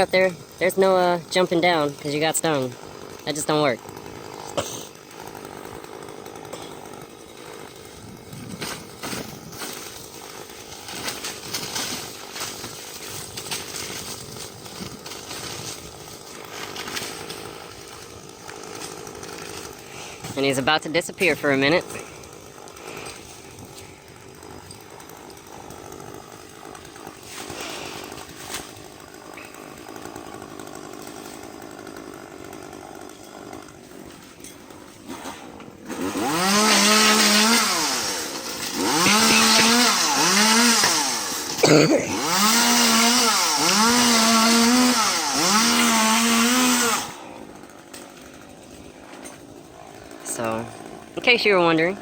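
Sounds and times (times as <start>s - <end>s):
chainsaw revving and cutting: 0.0s - 52.0s.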